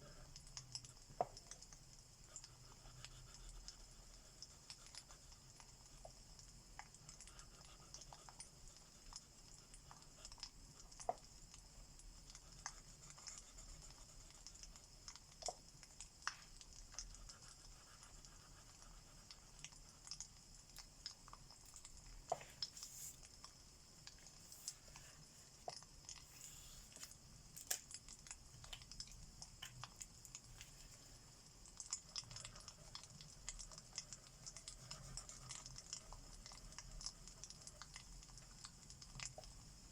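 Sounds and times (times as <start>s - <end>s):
faint crackling wood fire: 0.0s - 39.9s.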